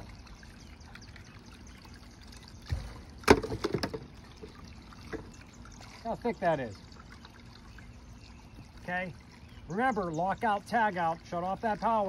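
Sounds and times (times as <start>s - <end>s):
water trickling over ice: 0.0s - 12.0s.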